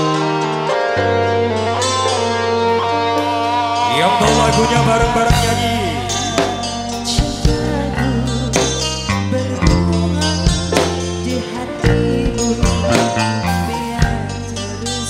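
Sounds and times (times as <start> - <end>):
bass guitar: 0.0 - 15.0
electric guitars: 0.0 - 15.0
keyboard: 0.0 - 15.0
sliding lead melody: 0.0 - 15.0.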